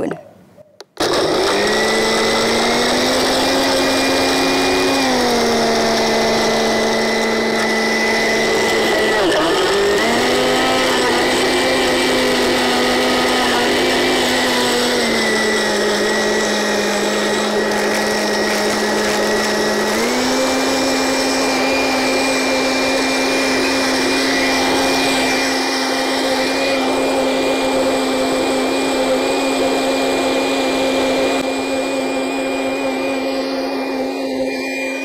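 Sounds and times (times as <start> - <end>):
electric blender running: 1.0 - 35.0.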